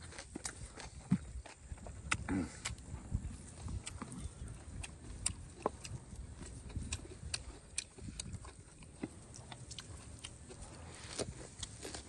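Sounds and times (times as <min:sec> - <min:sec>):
crunchy chewing: 0:00.0 - 0:12.0.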